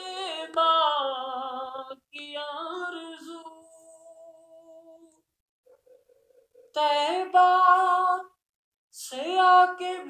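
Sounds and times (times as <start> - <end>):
person singing unaccompanied: 0.0 - 5.3, 6.6 - 10.0.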